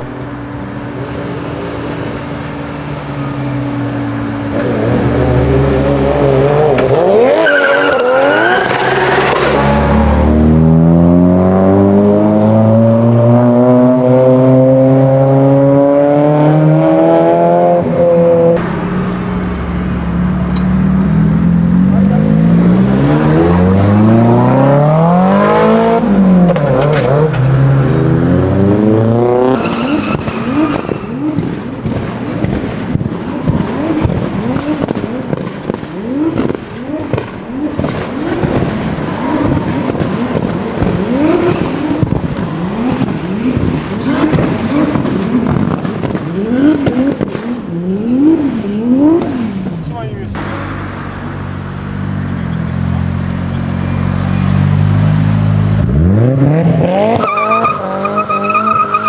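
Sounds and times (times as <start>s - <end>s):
car engine revving hard: 0.0s - 32.4s, 36.0s - 59.0s.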